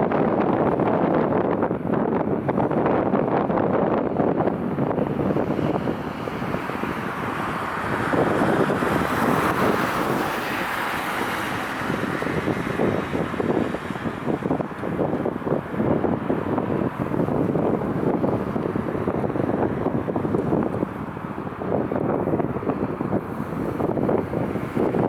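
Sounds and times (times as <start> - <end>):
jet airliner engines rushing: 0.0 - 25.0
wind buffeting microphone: 0.0 - 25.0.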